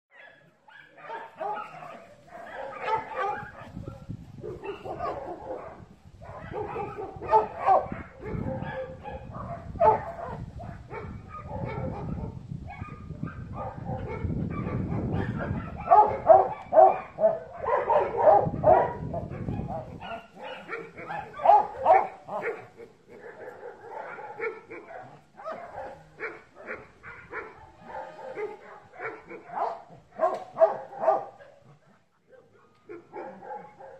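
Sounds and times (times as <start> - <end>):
dog barking and yipping: 0.1 - 33.9.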